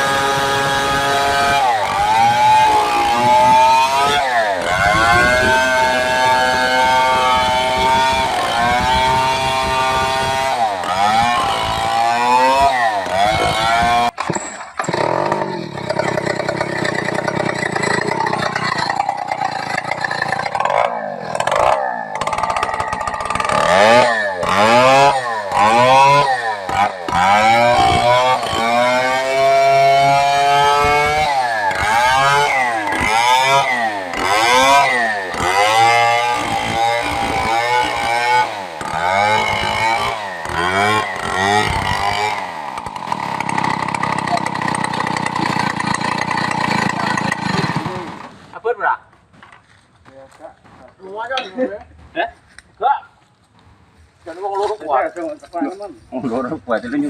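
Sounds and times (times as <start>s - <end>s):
chainsaw revving: 0.0s - 48.6s.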